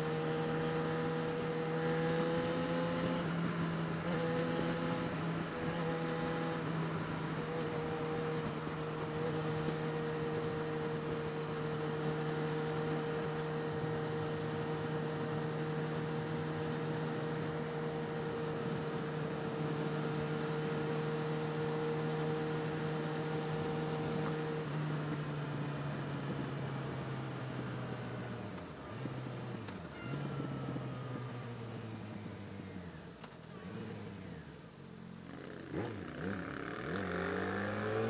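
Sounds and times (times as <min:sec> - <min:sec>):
motorcycle engine humming: 0:00.0 - 0:38.0.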